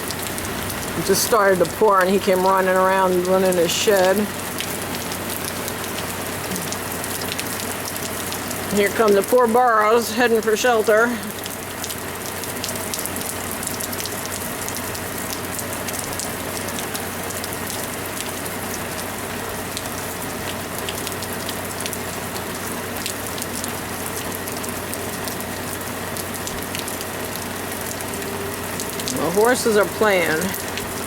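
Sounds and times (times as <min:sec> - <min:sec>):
heavy rain pouring: 0:00.0 - 0:31.0
raindrops ticking on surfaces: 0:00.0 - 0:31.0.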